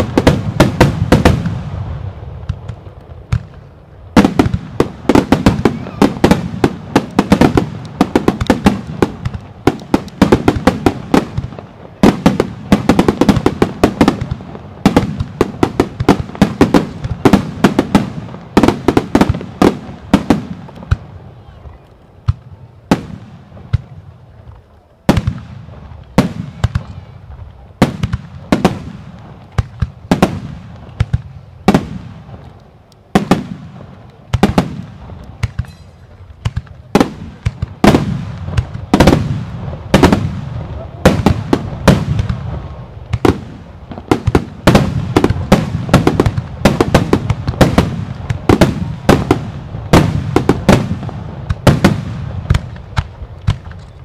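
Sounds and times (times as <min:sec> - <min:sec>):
fireworks bursting in bangs: 0:00.0 - 0:32.4, 0:33.1 - 0:54.0.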